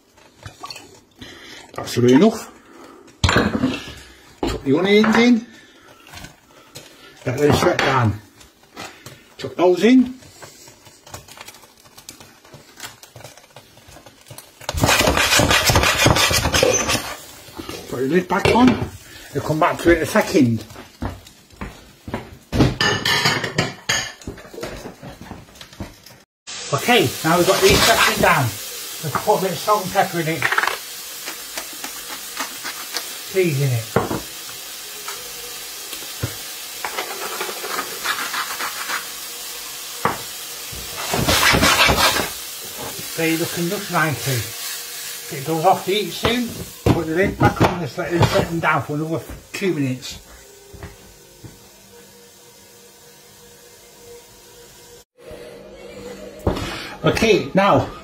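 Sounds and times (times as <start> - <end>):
food sizzling in frying pan: 0.0 - 55.2.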